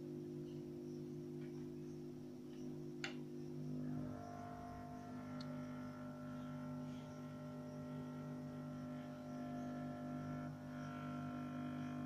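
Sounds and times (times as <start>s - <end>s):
rework station humming: 0.0s - 12.0s.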